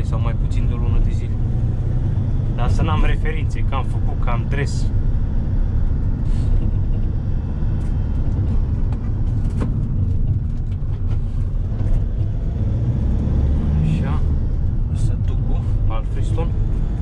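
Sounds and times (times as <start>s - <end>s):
delivery van engine rumble: 0.0s - 17.0s
road noise: 0.0s - 17.0s.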